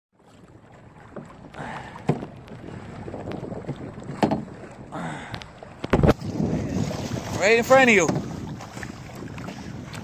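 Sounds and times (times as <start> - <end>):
water sloshing against a canoe: 0.2 - 10.0
wind on microphone: 0.3 - 10.0.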